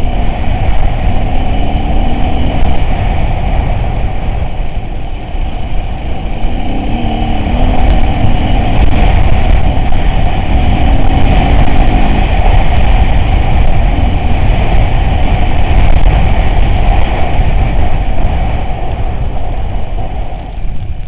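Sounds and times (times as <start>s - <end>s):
off-road vehicle engine rumble: 0.0s - 21.0s.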